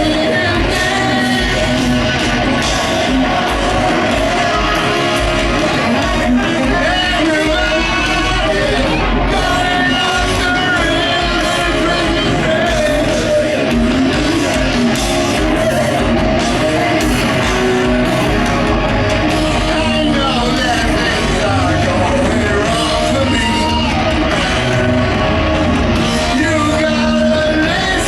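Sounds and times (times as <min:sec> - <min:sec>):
heavy metal band playing live: 0:00.0 - 0:28.0.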